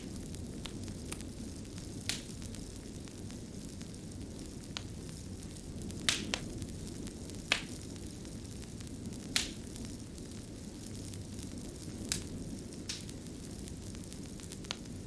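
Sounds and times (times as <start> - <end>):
fire burning and crackling: 0.0 - 15.0
fire pops: 0.0 - 15.0.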